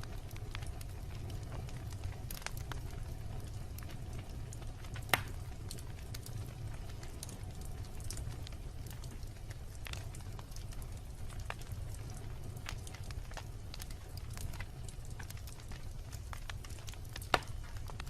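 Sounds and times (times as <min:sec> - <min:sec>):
campfire flames rumbling: 0:00.0 - 0:18.0
fire crackling and popping: 0:00.0 - 0:18.0.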